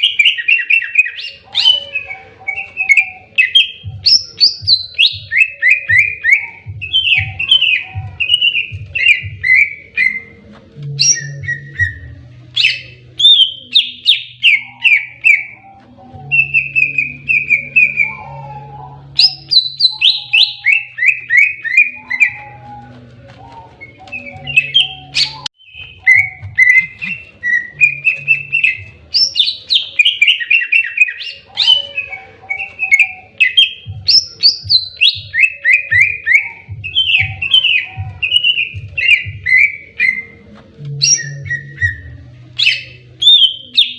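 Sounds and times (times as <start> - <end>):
bird singing rapid chirps: 0.0 - 43.9.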